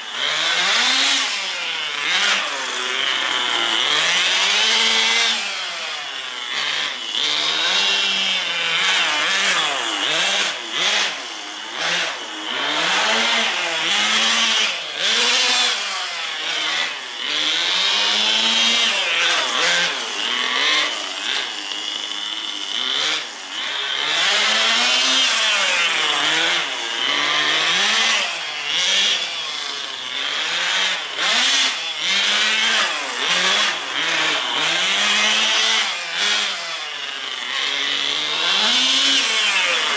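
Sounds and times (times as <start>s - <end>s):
small glow engine revving: 0.0s - 39.9s.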